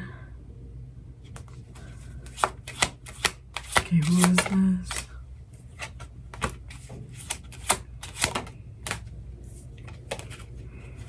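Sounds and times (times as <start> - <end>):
cards being shuffled: 1.2 - 11.0.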